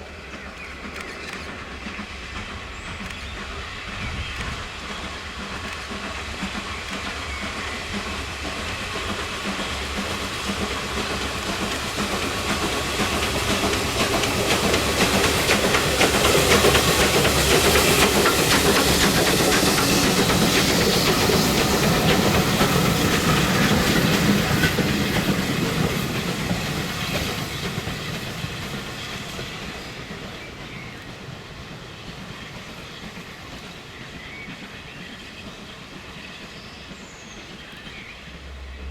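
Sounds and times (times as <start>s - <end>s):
steam train passing: 0.0s - 38.9s.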